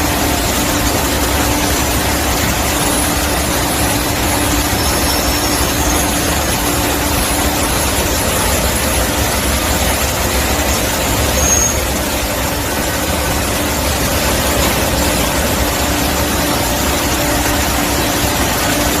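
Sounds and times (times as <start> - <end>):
cleaning machine hissing and rumbling: 0.0 - 19.0.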